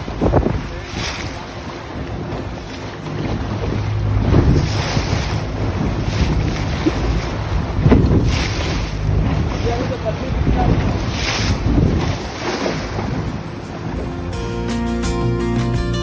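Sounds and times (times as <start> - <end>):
wind buffeting microphone: 0.0 - 14.9
boat engine running: 0.0 - 16.0
water rushing against hull: 0.0 - 16.0.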